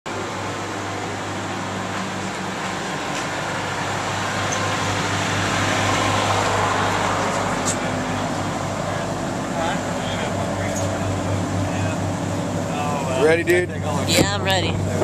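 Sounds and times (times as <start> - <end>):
boat engine drone: 0.1 - 15.0.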